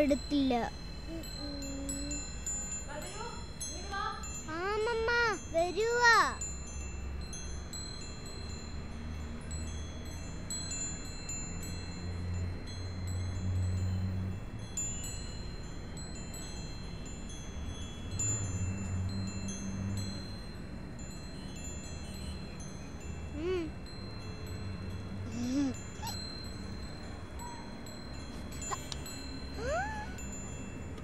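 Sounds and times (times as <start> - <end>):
wind chime tinkling: 0.0 - 31.0.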